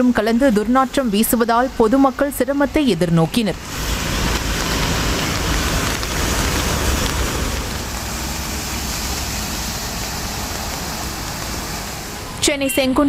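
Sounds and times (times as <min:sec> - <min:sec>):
vehicles driving through floodwater: 0:00.0 - 0:13.0.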